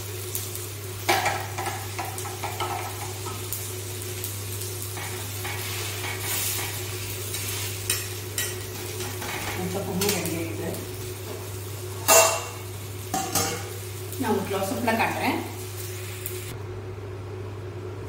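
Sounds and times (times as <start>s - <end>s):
food sizzling on a griddle: 0.0s - 16.6s.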